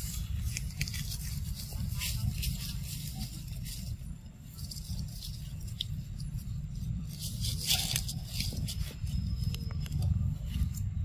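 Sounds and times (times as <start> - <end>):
dry leaves crackling and rustling: 0.0 - 11.0
steady low rumble: 0.0 - 11.0.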